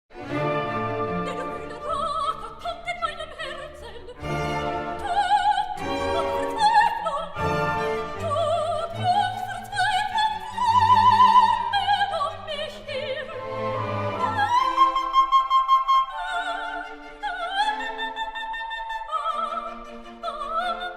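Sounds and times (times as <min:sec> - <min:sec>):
orchestra playing: 0:00.1 - 0:02.6, 0:03.4 - 0:20.9
operatic singing: 0:00.2 - 0:20.9.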